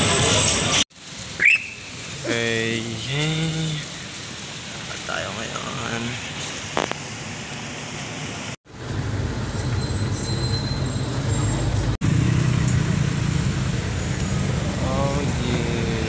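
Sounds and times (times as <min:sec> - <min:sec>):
light street traffic: 0:00.0 - 0:16.0
vehicle engine and road rumble: 0:00.0 - 0:16.0.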